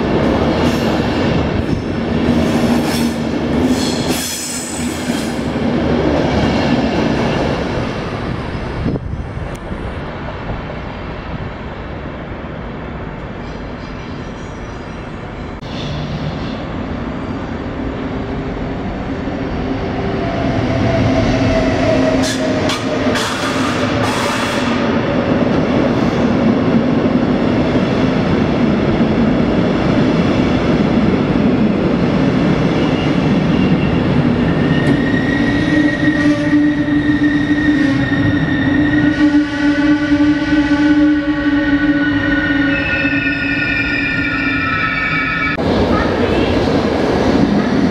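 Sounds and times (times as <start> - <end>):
electric locomotive passing: 0.0 - 47.9
train coaches rolling past: 0.0 - 47.9.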